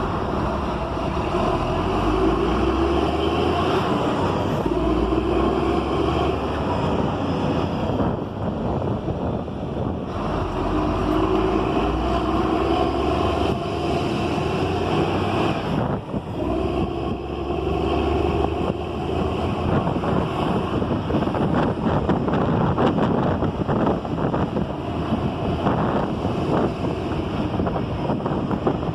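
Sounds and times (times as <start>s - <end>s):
bus diesel engine running: 0.0s - 28.9s.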